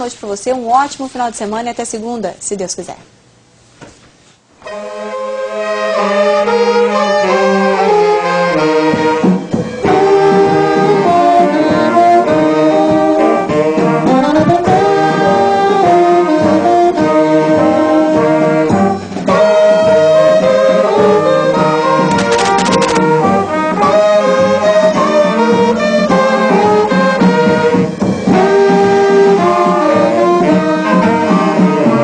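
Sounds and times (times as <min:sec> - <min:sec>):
saxophones and brass playing: 0:04.6 - 0:32.0.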